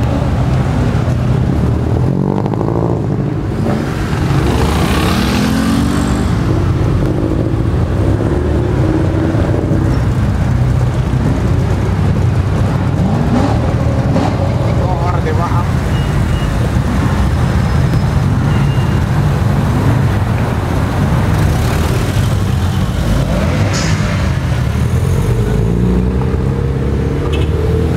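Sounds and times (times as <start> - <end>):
car engines accelerating: 0.0 - 27.9.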